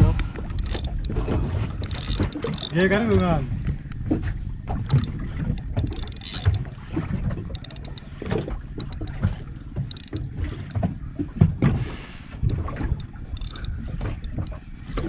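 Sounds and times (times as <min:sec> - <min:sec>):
speedboat engine rumble: 0:00.0 - 0:15.0.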